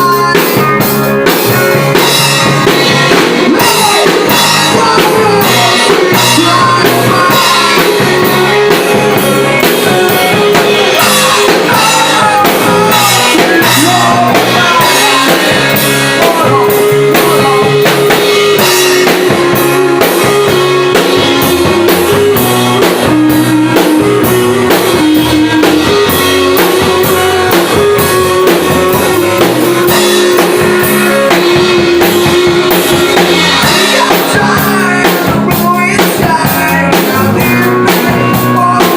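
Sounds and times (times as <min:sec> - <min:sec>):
drum kit beat: 0:00.0 - 0:38.9
guitar: 0:00.0 - 0:38.9.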